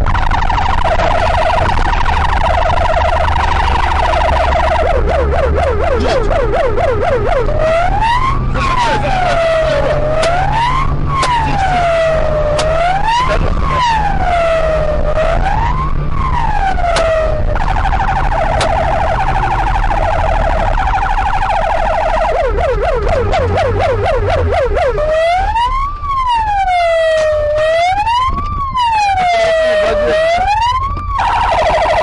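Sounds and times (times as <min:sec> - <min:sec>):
police siren: 0:00.0 - 0:32.0
vehicle engine drone: 0:00.0 - 0:32.0.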